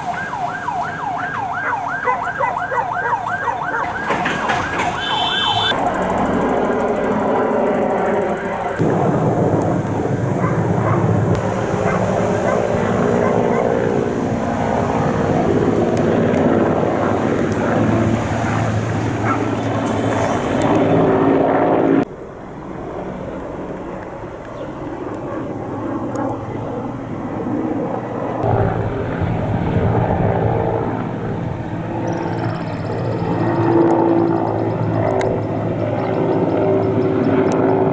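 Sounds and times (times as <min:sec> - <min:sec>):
helicopter flying overhead: 0:00.0 - 0:37.9.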